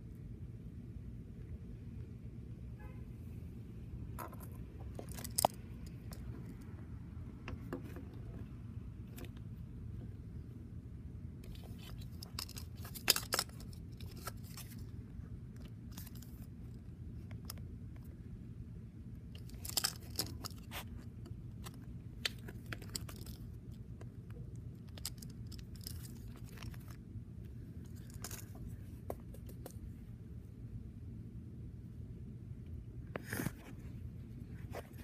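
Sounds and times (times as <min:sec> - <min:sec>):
low background rumble: 0:00.0 - 0:35.0.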